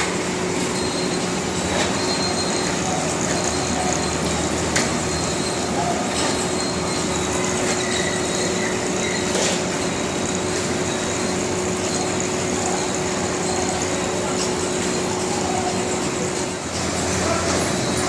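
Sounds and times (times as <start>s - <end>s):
machinery running: 0.0s - 18.0s.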